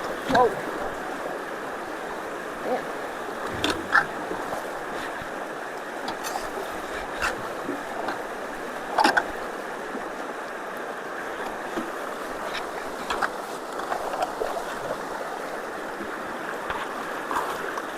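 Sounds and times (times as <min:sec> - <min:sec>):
floodwater rushing through culvert: 0:00.0 - 0:17.9.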